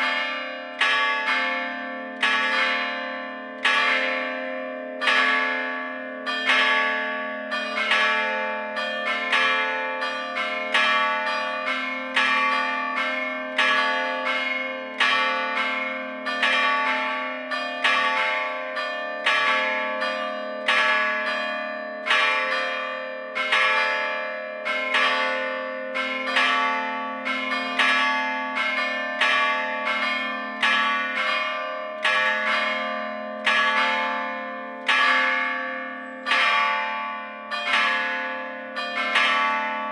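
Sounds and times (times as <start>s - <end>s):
church bells struck by hammers: 0.0s - 39.9s.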